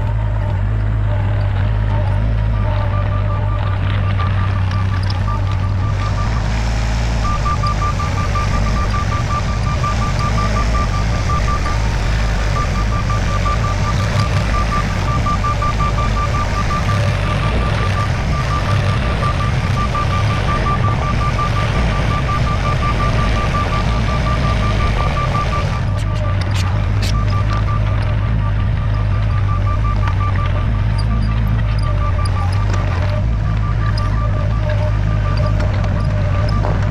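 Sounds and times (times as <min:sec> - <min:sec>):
engine humming: 0:00.0 - 0:36.9
rapid high beeping: 0:02.4 - 0:36.9.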